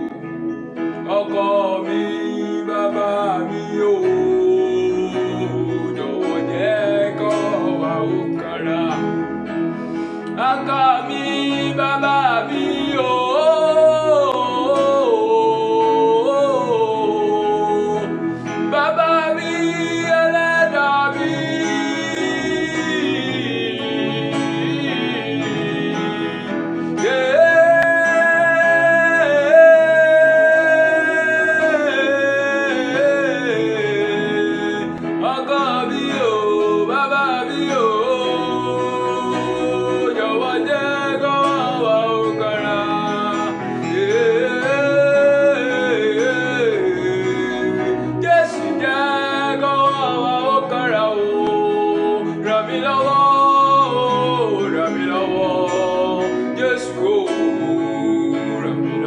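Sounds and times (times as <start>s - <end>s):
instrumental accompaniment: 0.0s - 59.0s
solo singer holding long notes: 0.0s - 59.0s.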